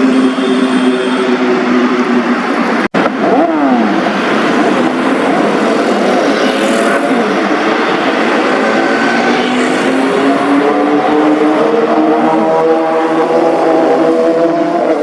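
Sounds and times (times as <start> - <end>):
motorcycle engines revving and passing: 0.0 - 15.0.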